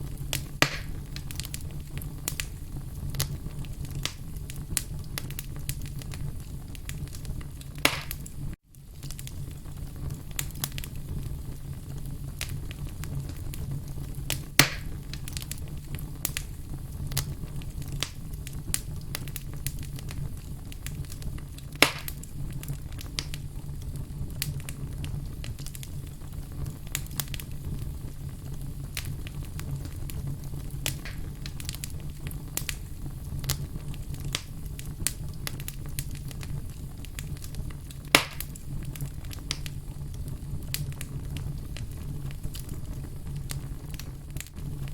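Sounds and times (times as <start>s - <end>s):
logs crackling and popping: 0.0s - 44.9s
low rumble of flame: 0.0s - 44.9s.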